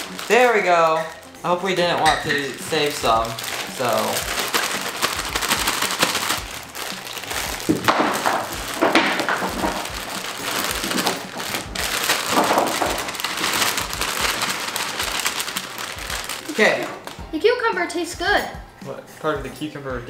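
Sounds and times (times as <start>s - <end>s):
plastic bag crinkling: 0.0s - 17.3s.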